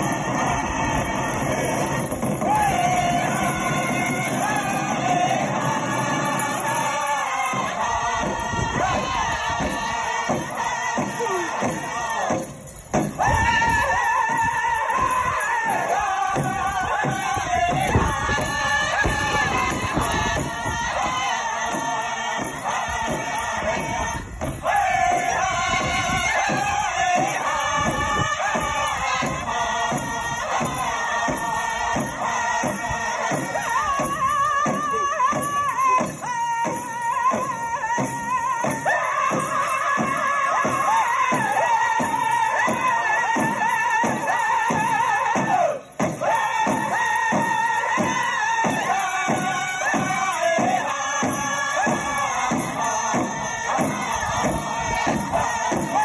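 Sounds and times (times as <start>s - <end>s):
drum steady beat: 0.0s - 56.0s
high-pitched singing: 0.0s - 56.0s.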